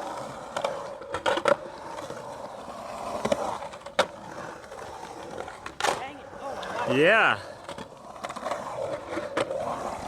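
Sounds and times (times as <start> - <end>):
skateboard clacks: 0.0 - 10.0
skateboard wheels rumbling: 0.0 - 10.0.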